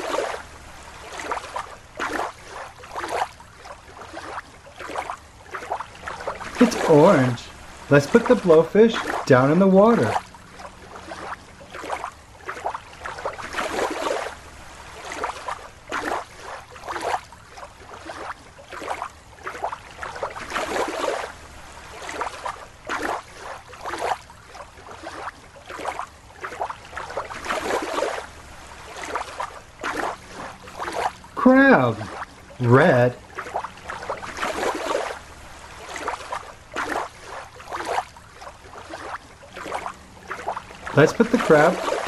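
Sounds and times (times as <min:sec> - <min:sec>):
water sloshing: 0:00.0 - 0:42.0.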